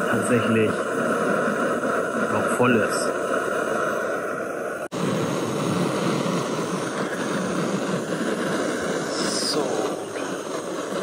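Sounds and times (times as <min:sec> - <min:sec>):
gas stove burner rushing: 0:00.0 - 0:11.0.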